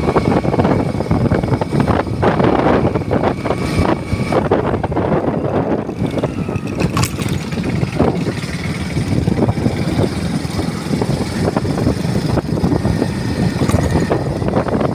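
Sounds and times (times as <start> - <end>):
motorcycle engine rumbling: 0.0 - 14.9.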